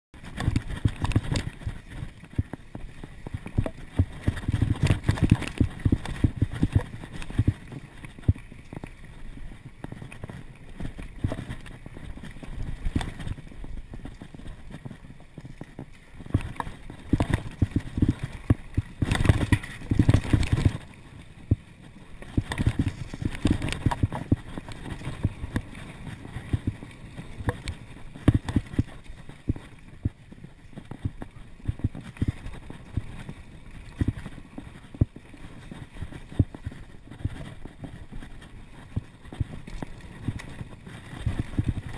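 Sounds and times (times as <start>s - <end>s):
bike knocking and rattling: 0.2s - 8.9s, 9.6s - 41.9s
bike tyres rumbling on dirt: 0.2s - 41.9s.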